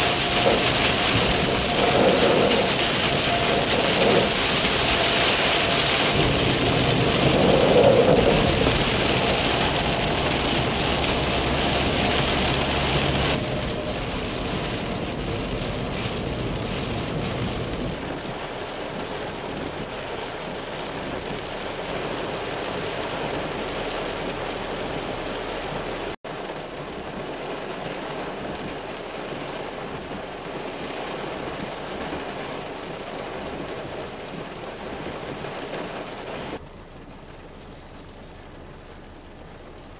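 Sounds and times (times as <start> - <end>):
heavy rain pouring: 0.0 - 39.9
road and engine rumble: 0.0 - 39.9.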